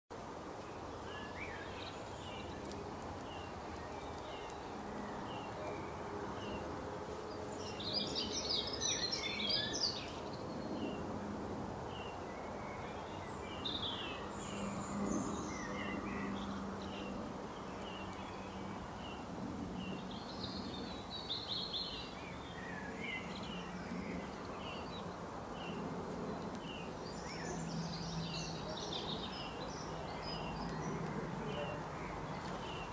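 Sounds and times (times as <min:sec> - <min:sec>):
steady background noise: 0:00.1 - 0:32.9
bird twittering song: 0:00.6 - 0:11.1, 0:11.9 - 0:32.9.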